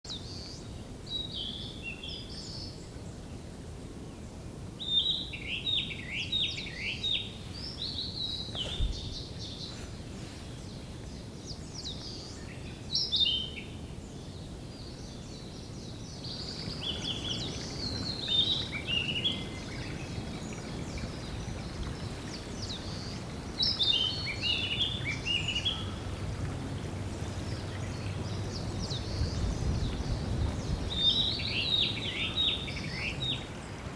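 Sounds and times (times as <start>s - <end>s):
low background noise: 0.1s - 33.9s
songbirds singing: 0.1s - 33.9s.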